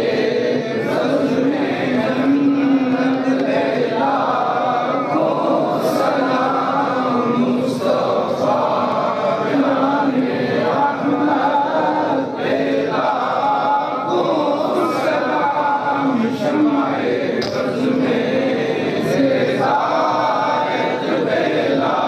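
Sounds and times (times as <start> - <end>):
boy chanting into a microphone: 0.0 - 22.0
voices chanting along: 0.0 - 22.0.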